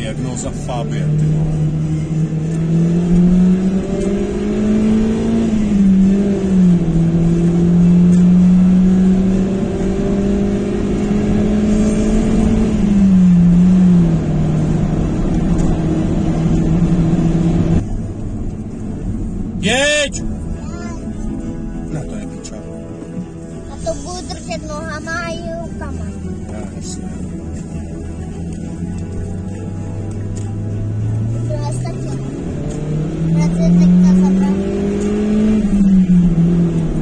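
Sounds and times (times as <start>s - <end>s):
car engine heard from inside: 0.0s - 37.0s.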